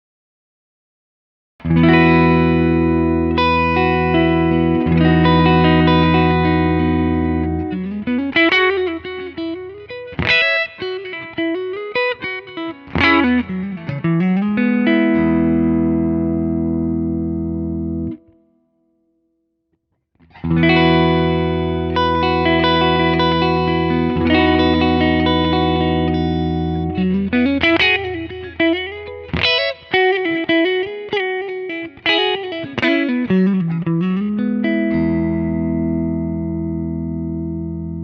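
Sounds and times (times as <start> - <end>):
distorted electric guitar: 1.6 - 18.3, 20.2 - 38.0.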